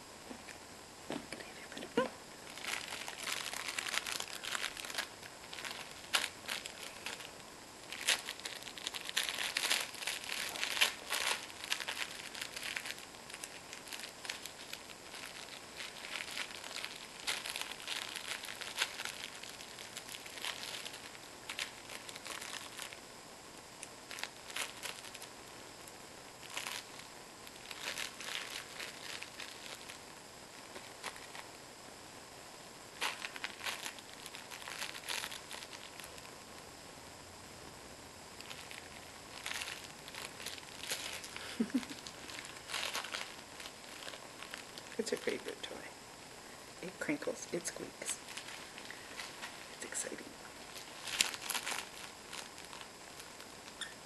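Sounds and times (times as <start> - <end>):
dog toy crinkling: 1.4 - 23.0, 23.8 - 25.3, 26.4 - 31.6, 33.0 - 36.3, 38.4 - 45.8, 46.8 - 54.0.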